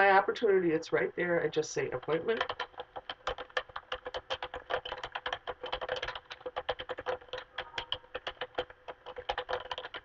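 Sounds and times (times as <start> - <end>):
rapid keyboard typing: 0.0 - 10.0.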